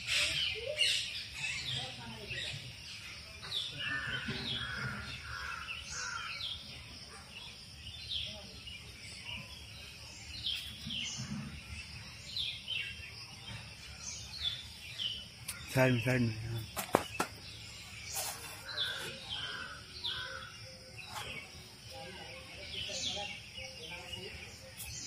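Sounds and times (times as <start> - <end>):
birds chirping: 0.0 - 25.0
faint background noise: 0.0 - 25.0.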